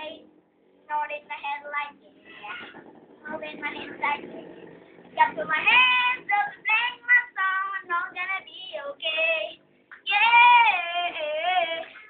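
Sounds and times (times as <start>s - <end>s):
boy singing unaccompanied: 0.9s - 4.5s, 5.2s - 12.0s.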